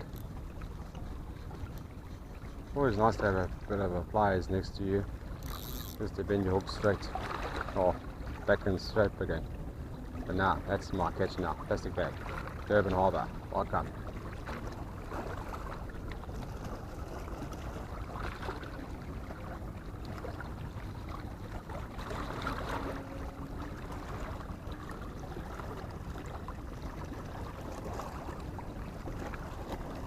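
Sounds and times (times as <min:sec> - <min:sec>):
harbour water: 0:00.0 - 0:30.0.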